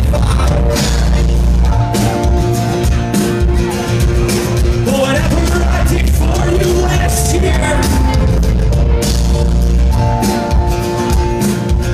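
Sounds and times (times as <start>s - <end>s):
live rock band playing: 0.0s - 11.9s.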